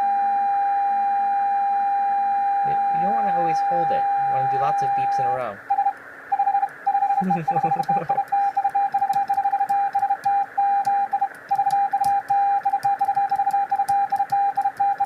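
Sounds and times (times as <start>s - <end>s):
morse code beeps: 1.0s - 15.0s
receiver hiss: 2.6s - 15.0s.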